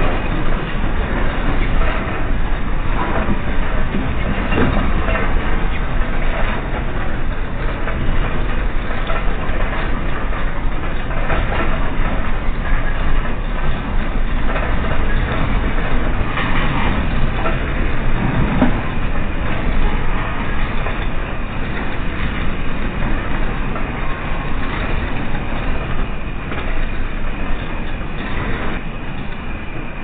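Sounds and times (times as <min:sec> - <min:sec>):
rattling and knocking: 0:00.0 - 0:29.4.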